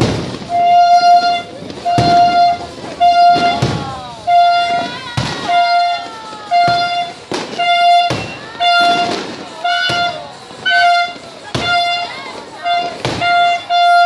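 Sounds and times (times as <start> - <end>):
falling firework whistles: 0.0 - 14.0
fireworks banging: 0.0 - 14.0
horn honking: 0.4 - 14.0.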